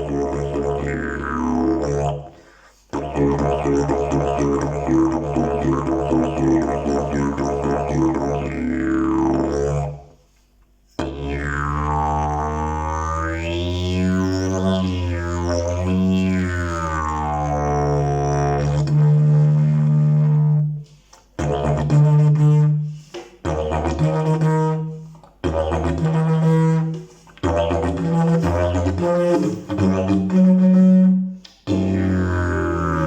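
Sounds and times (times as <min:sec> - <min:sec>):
didgeridoo droning: 0:00.0 - 0:10.2, 0:11.0 - 0:20.8, 0:21.4 - 0:33.0.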